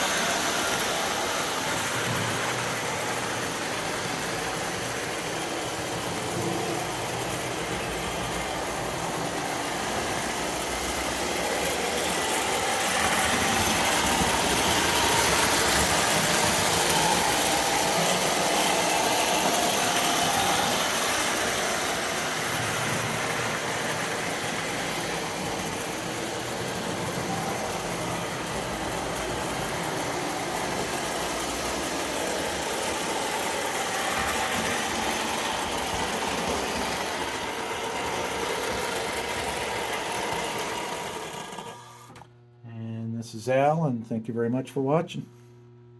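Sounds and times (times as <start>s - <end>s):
wheels rattling on rails: 0.0s - 41.8s
electric motor hum: 0.0s - 42.5s.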